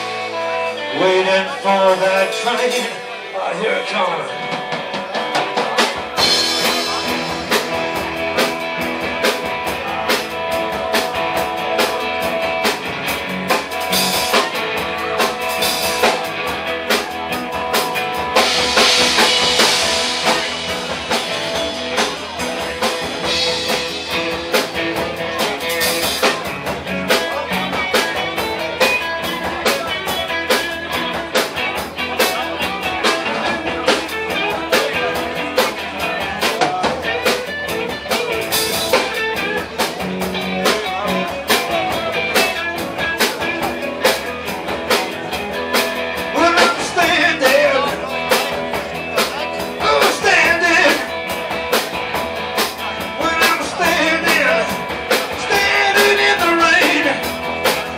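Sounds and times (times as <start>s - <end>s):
bass guitar: 0.0s - 57.9s
electric guitars: 0.0s - 57.9s
drum kit beat: 3.8s - 57.9s.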